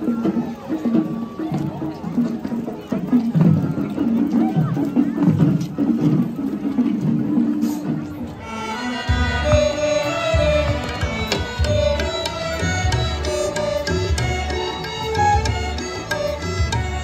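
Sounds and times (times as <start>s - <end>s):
violins and keyboard ensemble: 0.0s - 17.0s
low drum beat: 0.4s - 17.0s.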